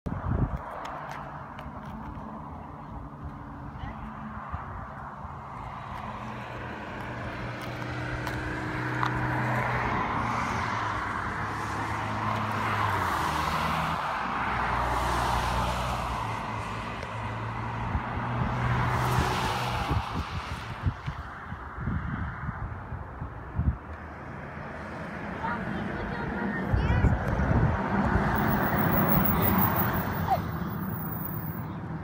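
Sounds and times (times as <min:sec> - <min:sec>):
cars driving past: 0:00.1 - 0:32.0.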